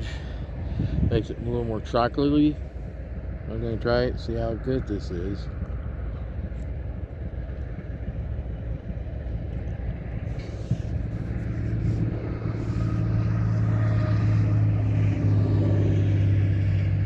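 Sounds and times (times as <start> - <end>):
engine hum: 0.0 - 17.0
motor vehicle rumble: 0.0 - 17.0.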